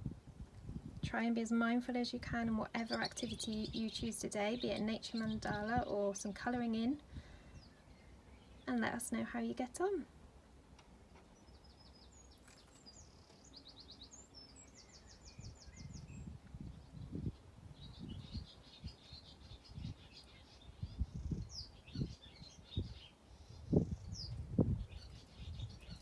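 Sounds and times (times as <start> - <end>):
songbirds trilling and chirping: 0.3 - 26.0.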